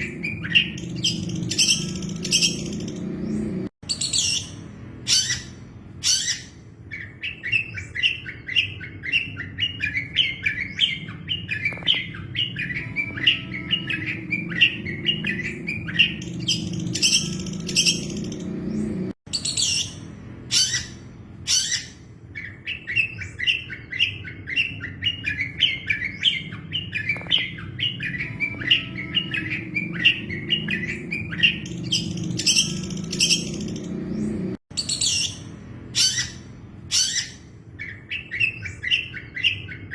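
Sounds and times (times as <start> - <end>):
bird chirping rapidly: 0.0 - 39.9
harsh high bird calls: 0.0 - 39.9.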